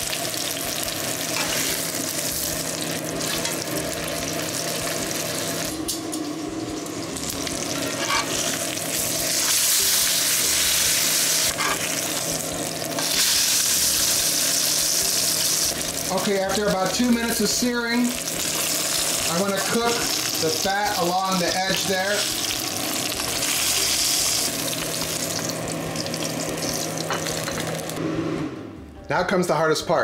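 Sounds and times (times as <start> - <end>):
steak sizzling in skillet: 0.0 - 28.0.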